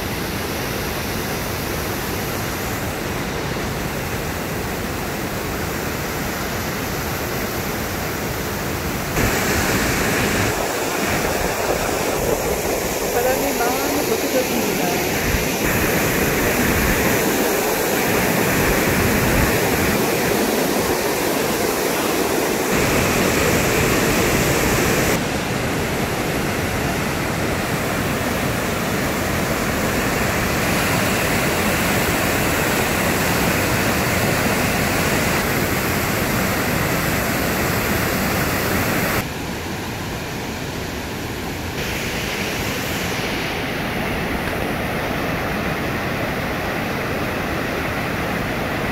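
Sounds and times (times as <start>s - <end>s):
roar of rushing stream: 0.0s - 48.9s.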